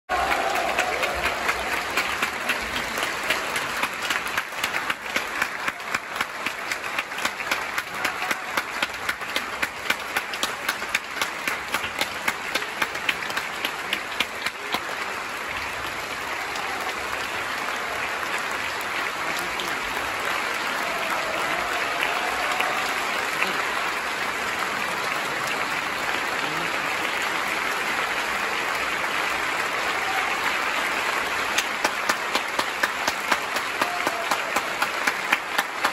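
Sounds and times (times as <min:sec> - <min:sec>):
audience applause: 0:00.1 - 0:35.9
sharp individual claps: 0:00.1 - 0:35.9.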